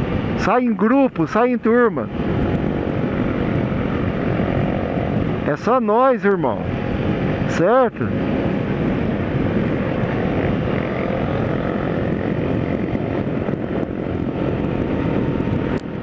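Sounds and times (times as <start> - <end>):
motorcycle engine drone: 0.0 - 16.0
wind rushing on microphone: 0.0 - 16.0.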